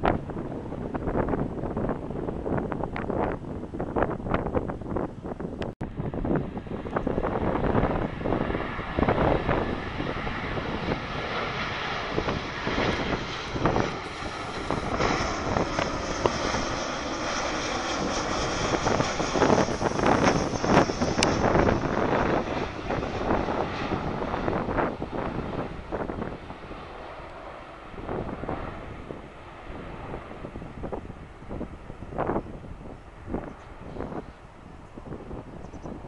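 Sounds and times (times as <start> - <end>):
jet engine roar: 0.0 - 36.0
wind buffeting microphone: 0.0 - 36.0.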